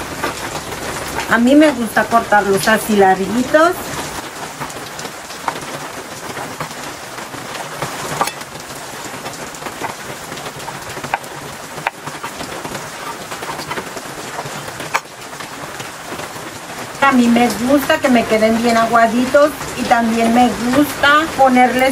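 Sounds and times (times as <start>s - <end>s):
steady rain falling: 0.0s - 21.9s.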